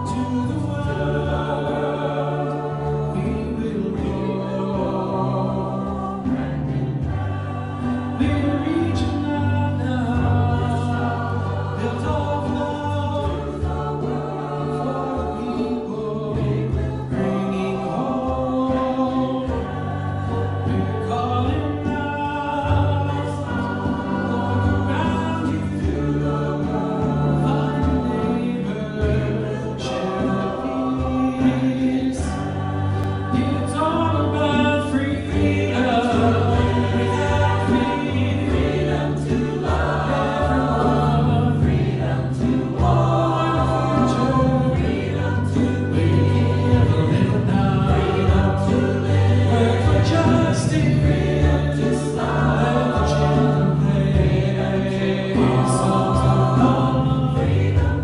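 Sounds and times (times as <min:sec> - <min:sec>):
man singing lead into microphone: 0:00.0 - 0:58.0
small choir singing: 0:00.0 - 0:58.0.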